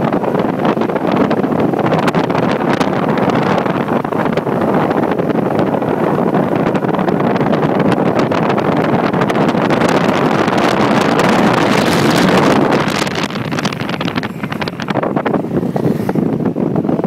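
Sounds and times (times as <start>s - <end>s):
road and engine noise: 0.0s - 17.0s
wind buffeting microphone: 0.0s - 17.0s.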